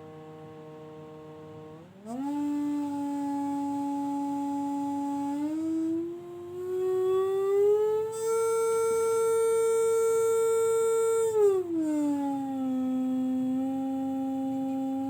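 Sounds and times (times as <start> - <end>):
siren-like sustained tone: 0.0 - 15.0.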